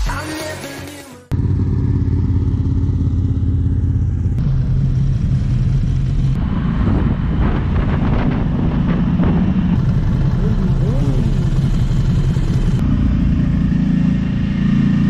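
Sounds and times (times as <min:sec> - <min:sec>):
motorcycle engines throbbing: 0:01.3 - 0:15.0.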